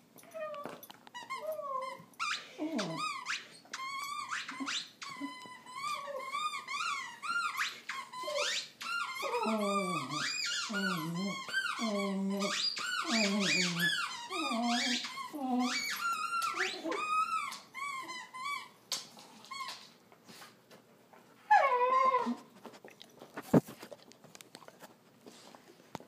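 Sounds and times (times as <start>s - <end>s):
dog whining: 0.2s - 19.9s, 21.4s - 22.8s.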